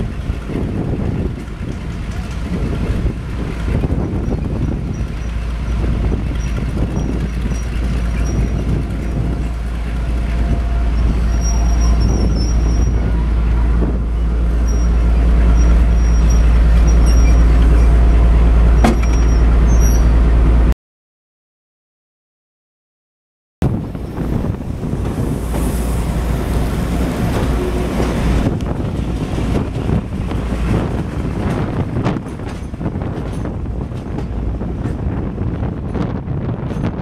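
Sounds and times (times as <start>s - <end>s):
diesel locomotive rumbling: 0.0s - 20.7s, 23.6s - 37.0s.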